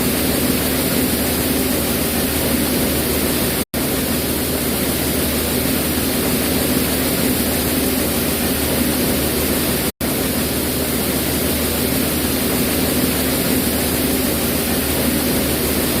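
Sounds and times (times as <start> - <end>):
milling machinery hum: 0.0 - 16.0.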